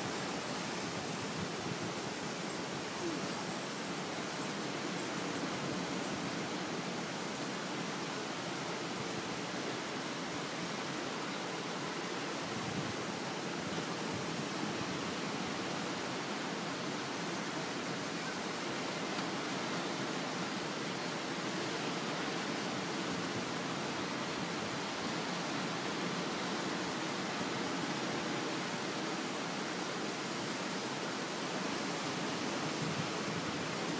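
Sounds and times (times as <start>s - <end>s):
surf hissing on sandy beach: 0.0s - 33.9s.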